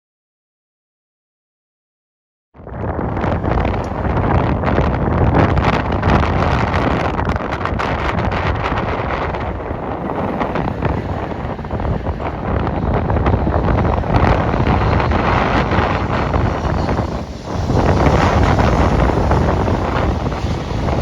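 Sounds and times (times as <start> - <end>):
wind buffeting microphone: 2.6 - 21.0
train running by: 3.2 - 21.0.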